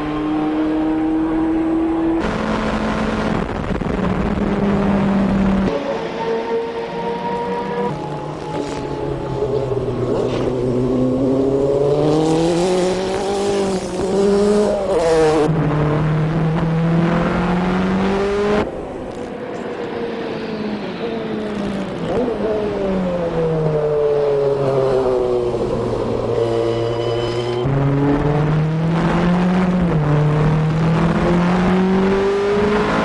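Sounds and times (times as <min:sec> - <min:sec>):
race car engine at full throttle: 0:00.0 - 0:33.0.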